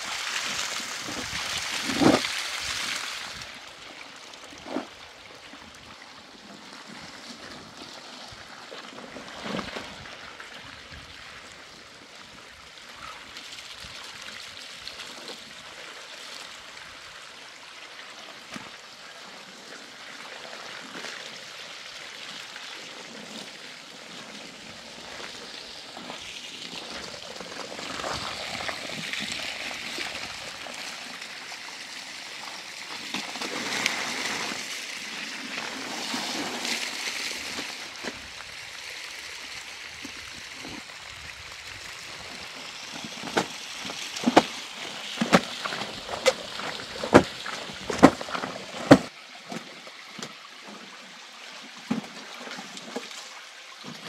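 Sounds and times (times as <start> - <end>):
water running and sloshing: 0.0 - 54.0.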